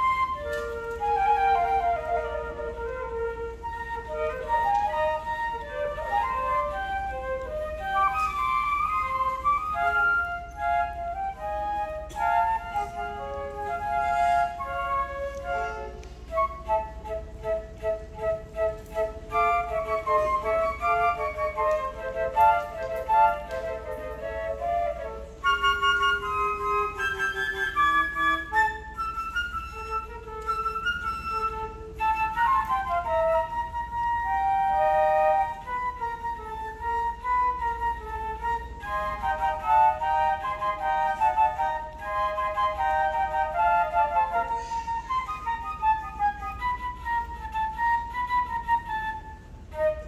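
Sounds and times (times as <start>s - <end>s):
flute trio playing: 0.0s - 50.0s.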